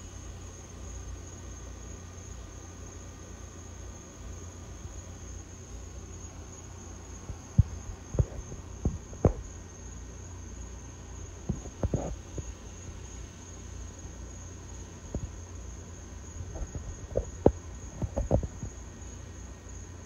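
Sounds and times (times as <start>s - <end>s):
high insect trill: 0.0s - 20.0s.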